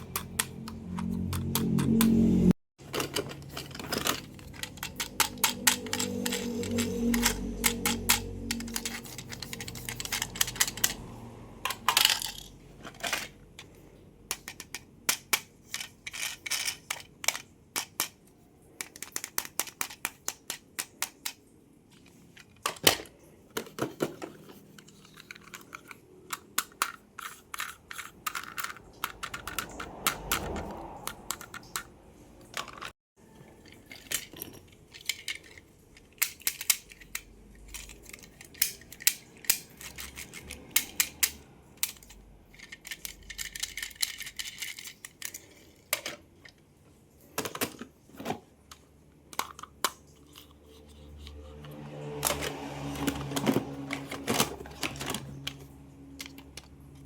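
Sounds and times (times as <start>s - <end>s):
plastic packaging and toy cars handled: 0.0s - 57.0s.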